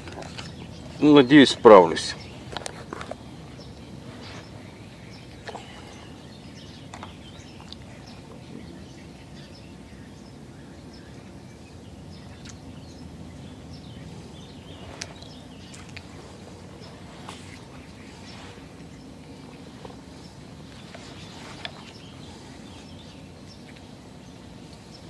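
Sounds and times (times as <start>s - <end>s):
birds chirping and calling: 0.0s - 25.0s
low background noise: 0.0s - 25.0s.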